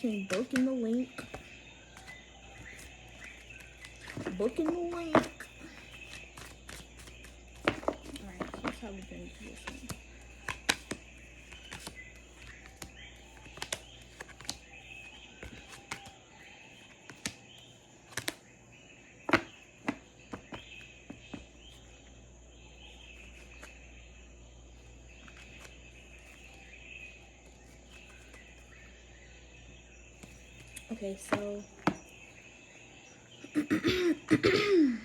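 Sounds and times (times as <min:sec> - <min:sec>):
birds: 0:00.0 - 0:35.0
insects chirring: 0:00.0 - 0:35.0.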